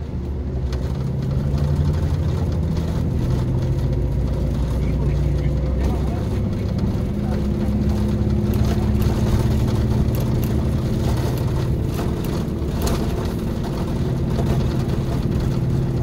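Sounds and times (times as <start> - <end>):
coach engine humming: 0.0 - 16.0.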